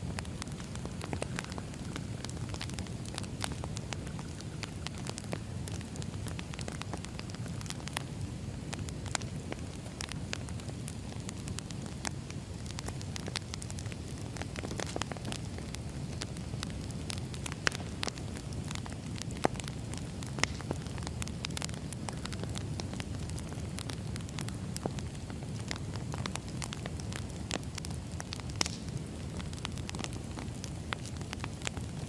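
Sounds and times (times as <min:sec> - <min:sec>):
low rush of flame: 0:00.0 - 0:32.0
wood crackling and snapping: 0:00.1 - 0:32.0.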